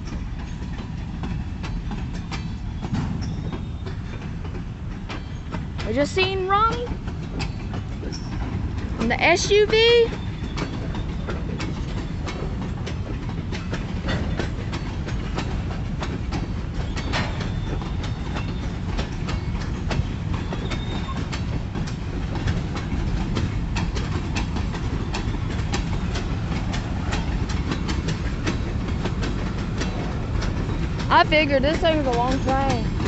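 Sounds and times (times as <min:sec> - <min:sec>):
freight train wheels rumbling: 0:00.0 - 0:33.0
wheels clacking over rail joints: 0:00.0 - 0:33.0.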